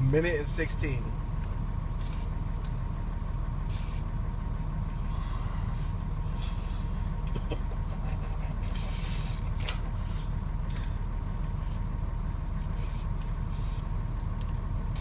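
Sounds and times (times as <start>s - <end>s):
low rumbling hum: 0.0s - 15.0s.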